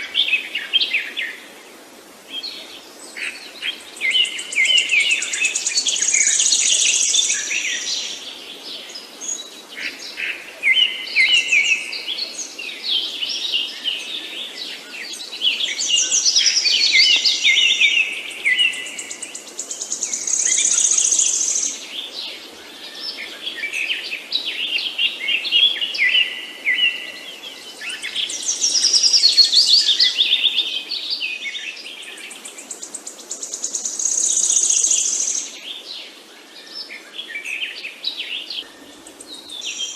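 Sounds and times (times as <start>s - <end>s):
songbirds chirping and singing: 2.4s - 39.9s.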